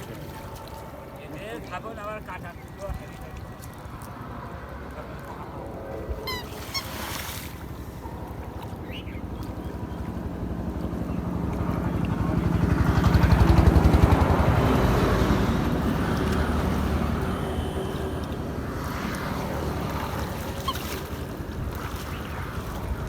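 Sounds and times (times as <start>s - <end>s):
small engine passing by: 4.2s - 23.0s.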